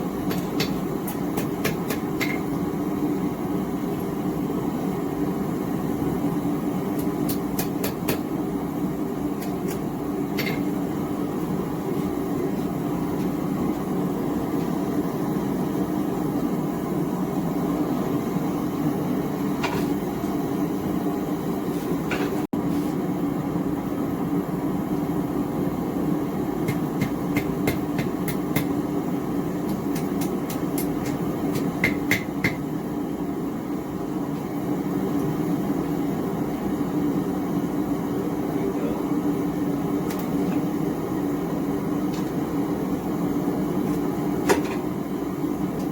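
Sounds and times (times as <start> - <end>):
gas forge burner roaring: 0.0 - 45.9.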